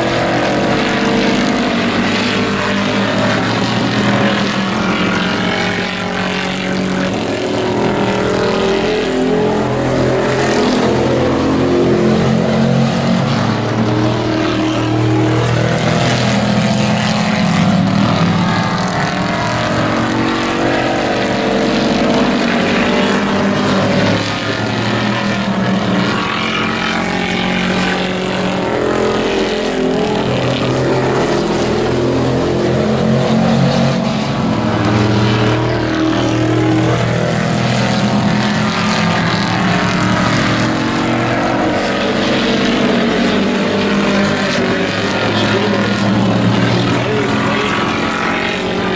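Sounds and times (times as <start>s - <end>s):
race truck engines accelerating: 0.0s - 48.9s.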